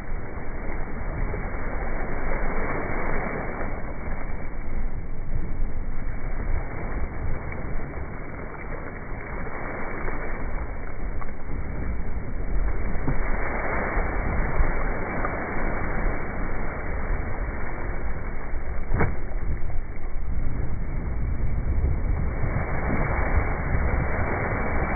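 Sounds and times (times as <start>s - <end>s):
water rushing past hull: 0.0s - 24.9s
wind rumbling on microphone: 0.0s - 24.9s.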